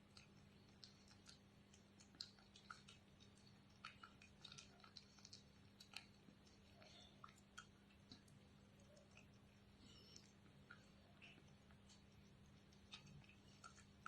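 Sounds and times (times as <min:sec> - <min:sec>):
cat chewing wet clicks: 0:00.0 - 0:14.0
low steady hum: 0:00.0 - 0:14.0.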